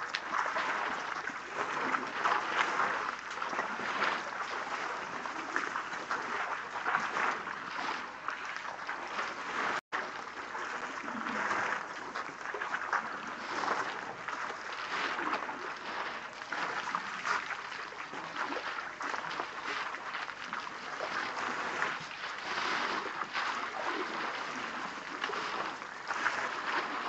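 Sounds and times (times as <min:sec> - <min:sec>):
water splashing and trickling: 0:00.0 - 0:27.0.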